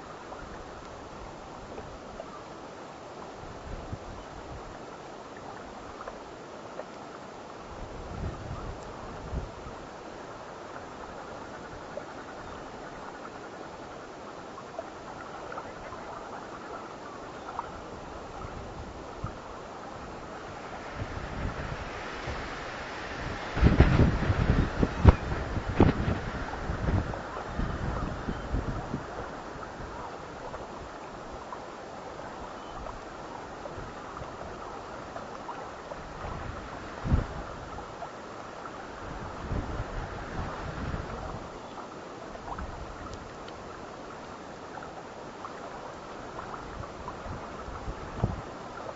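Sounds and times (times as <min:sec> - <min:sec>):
water: 0:00.0 - 0:48.9
wind on microphone: 0:03.4 - 0:04.9, 0:07.6 - 0:13.8, 0:14.9 - 0:44.8, 0:45.6 - 0:48.9.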